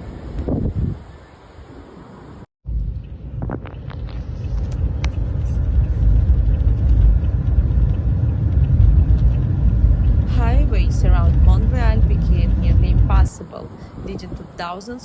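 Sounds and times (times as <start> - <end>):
low vehicle rumble: 2.4 - 15.0.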